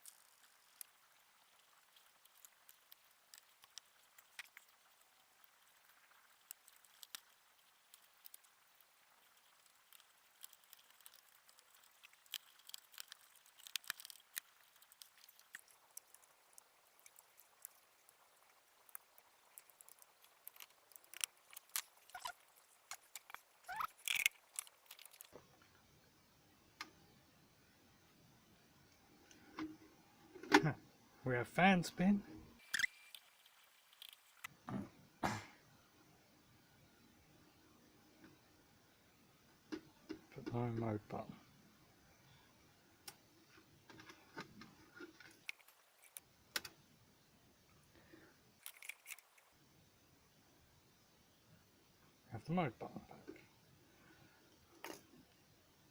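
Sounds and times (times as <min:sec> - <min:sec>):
faint steady hum: 0:00.0 - 0:55.9.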